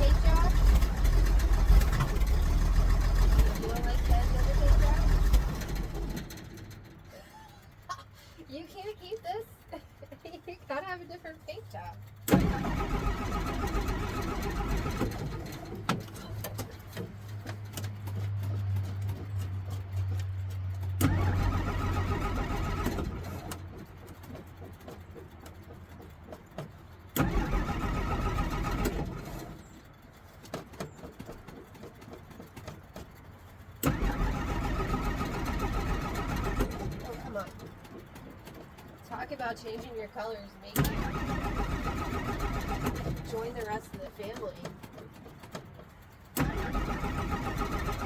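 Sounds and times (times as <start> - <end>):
car engine cranking and starting: 0.0 - 11.2, 11.8 - 48.0.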